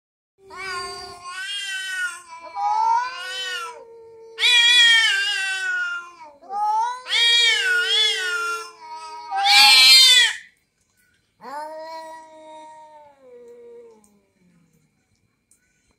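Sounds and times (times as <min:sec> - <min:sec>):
cats yowling: 0:00.4 - 0:10.5, 0:11.4 - 0:14.2.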